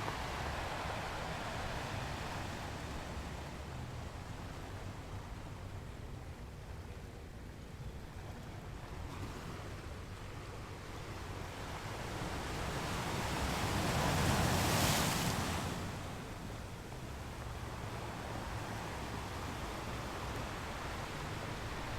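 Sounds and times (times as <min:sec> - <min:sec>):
low surf: 0:00.0 - 0:21.9.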